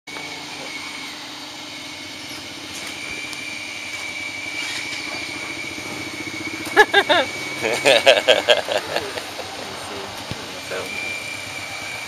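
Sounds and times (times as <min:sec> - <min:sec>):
motor hum with high whine: 0:00.1 - 0:12.0.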